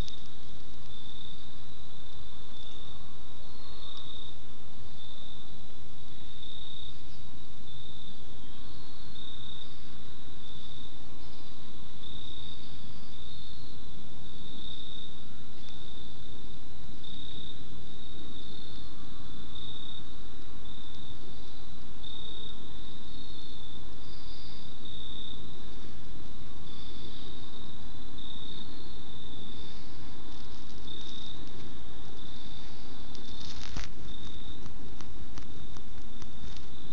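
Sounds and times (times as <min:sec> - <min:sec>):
insects chirping in trills: 0:00.0 - 0:36.9
low background noise: 0:00.0 - 0:36.9.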